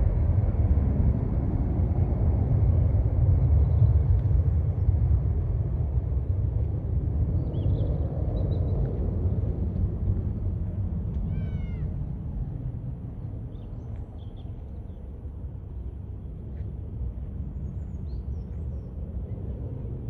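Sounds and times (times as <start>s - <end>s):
jet airliner rumble: 0.0s - 20.0s.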